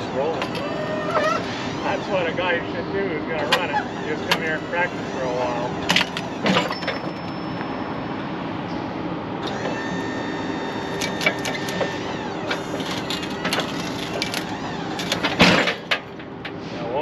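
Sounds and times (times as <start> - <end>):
hydraulic whine: 0.0 - 17.0
sawmill engine drone: 0.0 - 17.0.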